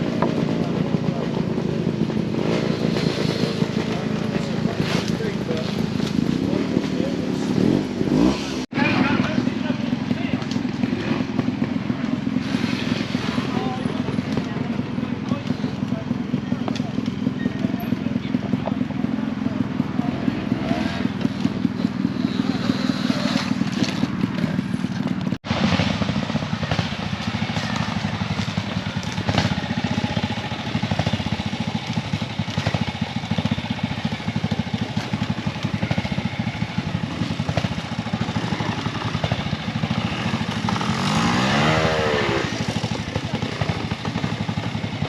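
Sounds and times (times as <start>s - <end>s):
tyre and chassis noise: 0.0s - 45.0s.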